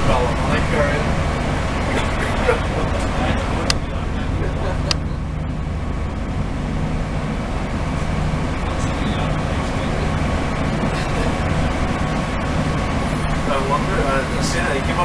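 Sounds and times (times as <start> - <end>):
diesel train running: 0.0 - 15.0.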